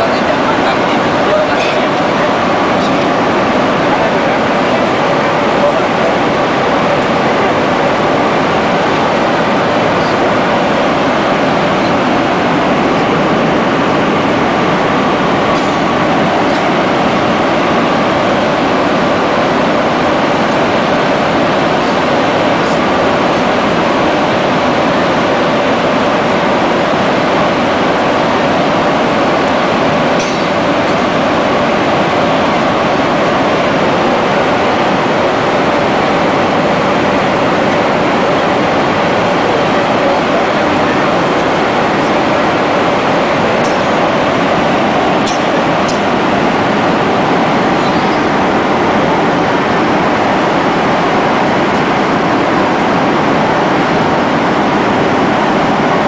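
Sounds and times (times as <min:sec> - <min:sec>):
airliner cabin engine roar: 0:00.0 - 0:56.0.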